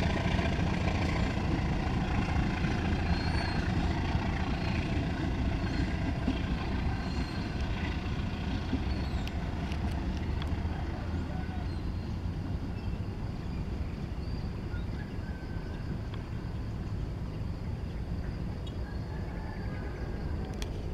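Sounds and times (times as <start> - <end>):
locomotive engine rumbling: 0.0 - 20.9.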